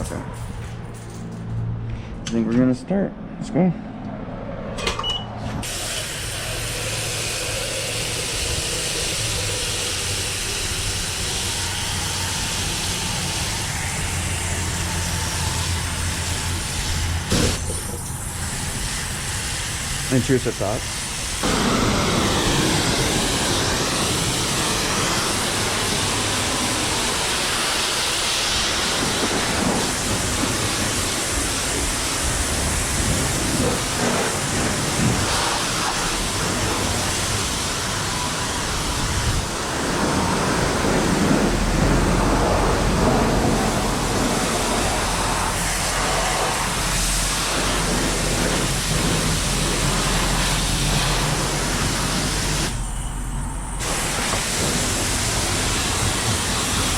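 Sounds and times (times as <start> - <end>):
high-pressure water spray hissing: 5.6 - 56.9.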